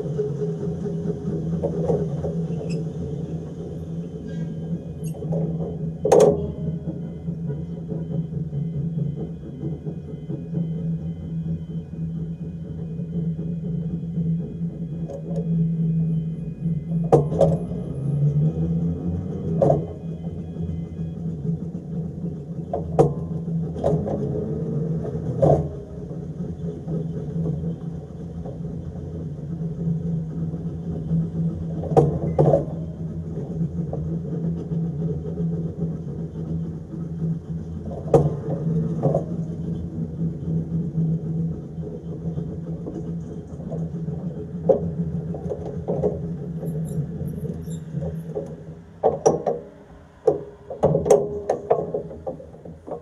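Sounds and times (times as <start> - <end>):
tram hum: 0.0 - 53.0
wheels clicking over rail joints: 0.0 - 53.0.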